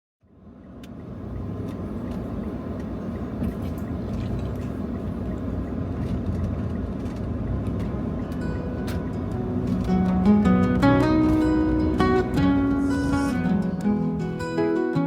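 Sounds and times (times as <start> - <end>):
road traffic rumble: 0.2 - 15.0.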